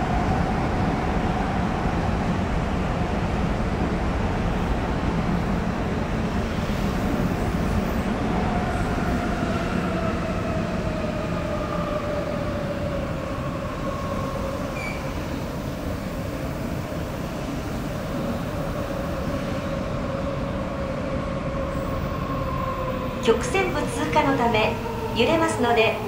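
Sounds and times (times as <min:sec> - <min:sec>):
subway train rumbling in tunnel: 0:00.0 - 0:26.0.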